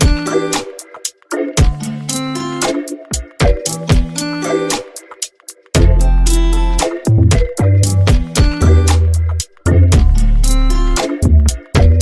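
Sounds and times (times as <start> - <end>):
funk music with bass and drums: 0.0 - 12.0.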